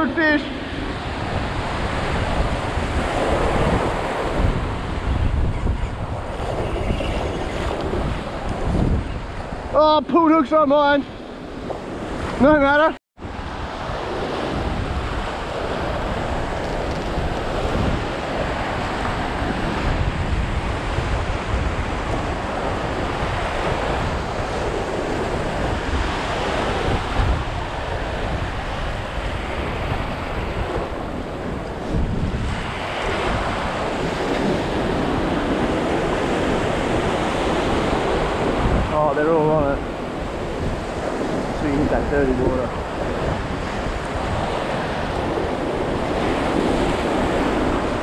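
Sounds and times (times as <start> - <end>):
surf breaking on beach: 0.0 - 48.0
wind buffeting microphone: 0.0 - 48.0.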